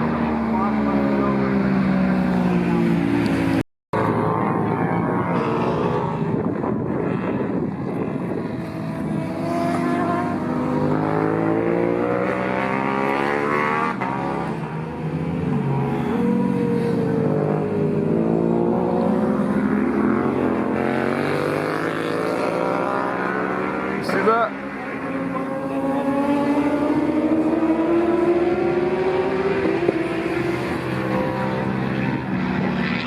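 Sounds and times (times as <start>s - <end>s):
racing motorcycle engines revving: 0.0s - 33.0s.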